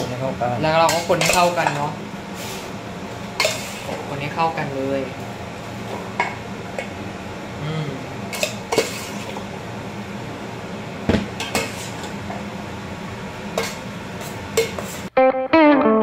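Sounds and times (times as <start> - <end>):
steady low hum: 0.0 - 15.1.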